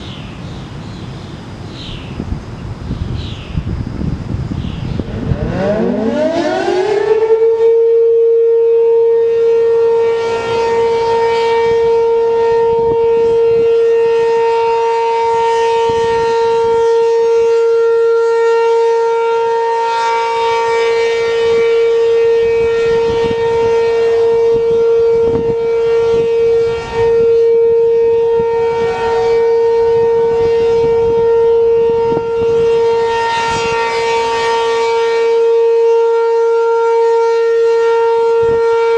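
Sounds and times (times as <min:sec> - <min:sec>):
warning siren winding up: 0:05.0 - 0:38.9.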